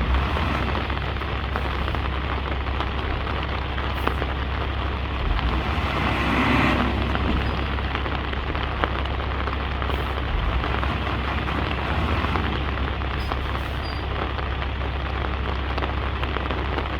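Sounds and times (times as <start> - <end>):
bulldozer diesel engine rumbling: 0.0 - 16.9.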